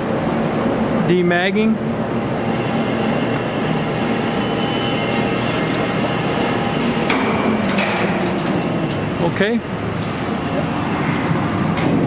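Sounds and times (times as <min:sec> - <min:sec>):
grinding machine hum: 0:00.0 - 0:12.0.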